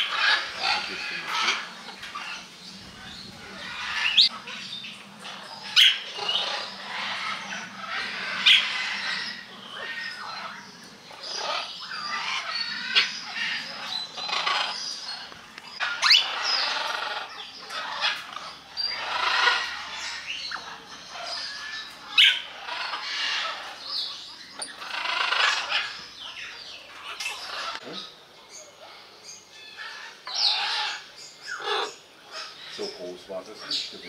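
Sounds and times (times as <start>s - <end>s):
birds chattering: 0.0s - 34.0s.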